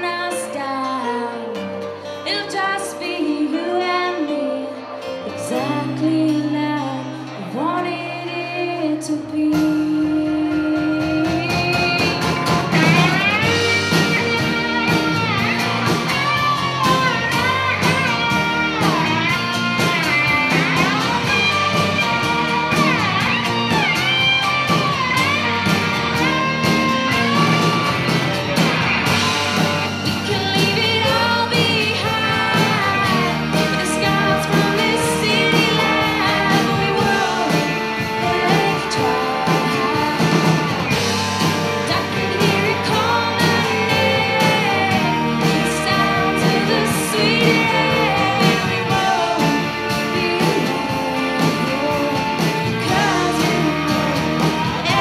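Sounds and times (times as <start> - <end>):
woman singing lead: 0.0 - 28.0, 29.0 - 55.0
drums: 0.0 - 55.0
guitars: 0.0 - 55.0.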